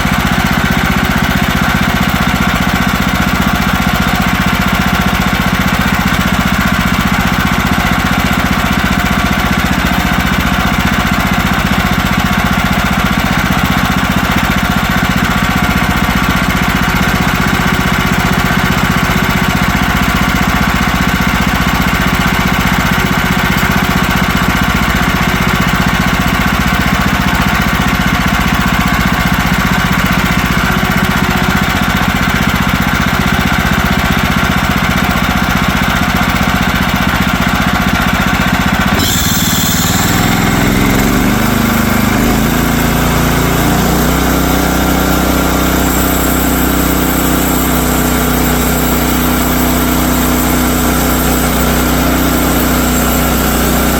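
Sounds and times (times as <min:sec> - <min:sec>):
sawmill gas engine running: 0:00.0 - 0:53.9.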